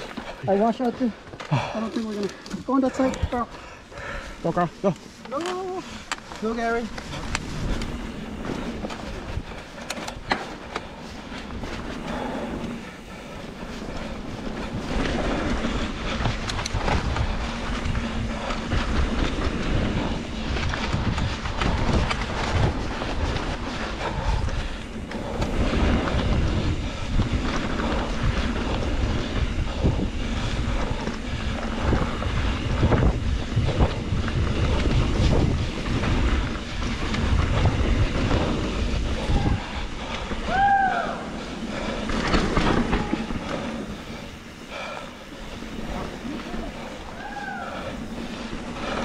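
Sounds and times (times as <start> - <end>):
bike rattling and clicking: 0.0 - 49.0
tyres rolling on dirt: 0.0 - 49.0
wind rushing over microphone: 2.9 - 49.0.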